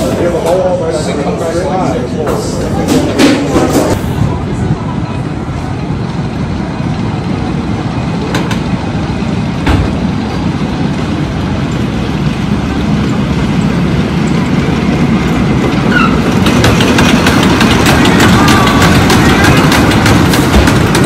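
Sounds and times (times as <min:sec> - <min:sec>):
wooden roller coaster rumbling: 0:00.0 - 0:21.0.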